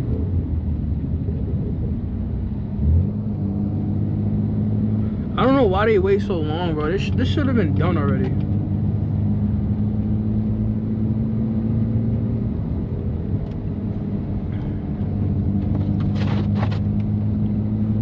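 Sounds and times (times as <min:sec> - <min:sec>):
car engine droning at low speed: 0:00.0 - 0:18.0.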